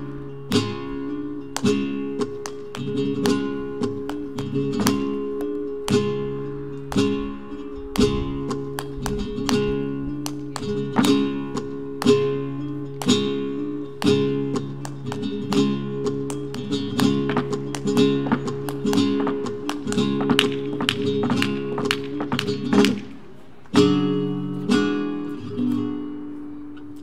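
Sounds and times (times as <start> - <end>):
flamenco guitar strumming: 0.0 - 27.0.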